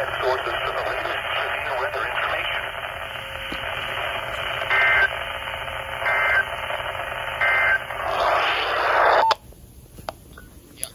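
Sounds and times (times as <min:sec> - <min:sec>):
shrill radio data bursts: 0:00.0 - 0:09.3
radio static hiss: 0:00.0 - 0:09.4.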